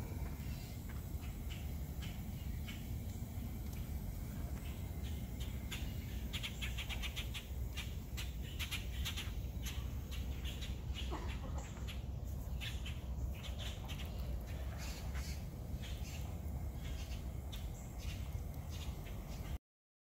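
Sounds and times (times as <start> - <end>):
birds chirping: 0.0 - 19.6
steady low rumble: 0.0 - 19.6.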